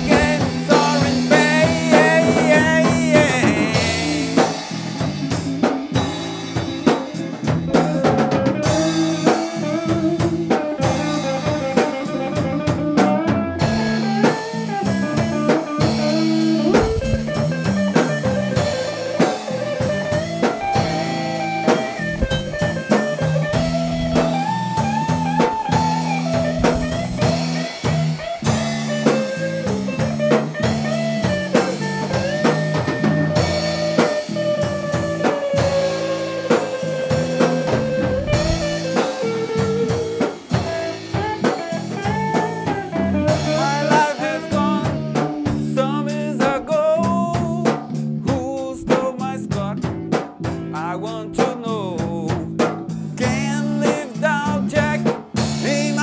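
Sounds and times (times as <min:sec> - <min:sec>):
lead guitar bending notes: 0:00.0 - 0:48.6
live blues-rock band: 0:00.0 - 0:56.0.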